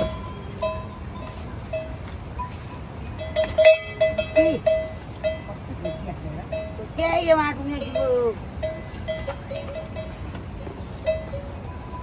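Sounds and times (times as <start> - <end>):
small bell clanking: 0.0 - 12.0.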